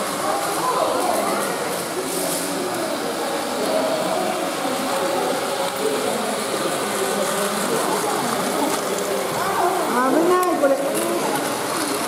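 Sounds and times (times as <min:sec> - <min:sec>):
faint indistinct voices: 0:00.0 - 0:12.0
toy trains whirring and rattling: 0:00.0 - 0:12.0.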